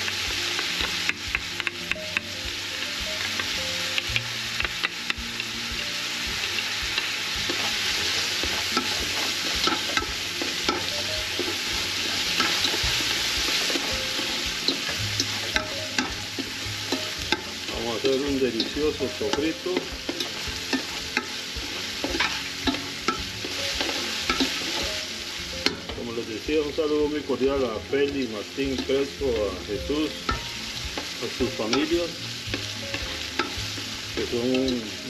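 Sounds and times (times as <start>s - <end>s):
onion and garlic sizzling in oil: 0.0s - 35.0s.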